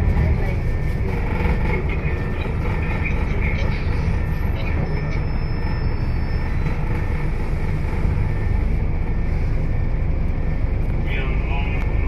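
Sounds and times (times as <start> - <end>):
bus diesel engine drone: 0.0 - 12.0
road and tyre noise: 0.0 - 12.0.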